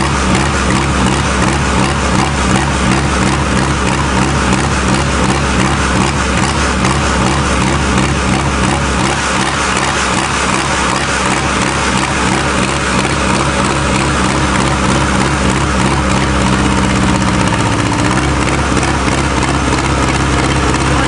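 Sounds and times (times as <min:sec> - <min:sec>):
diesel engine clattering: 0:00.0 - 0:21.0.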